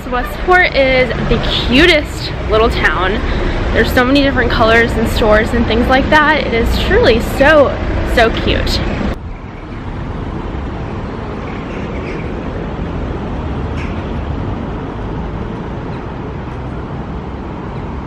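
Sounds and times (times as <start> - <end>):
steady low rumble: 0.0 - 17.5
passing car traffic: 0.0 - 18.0.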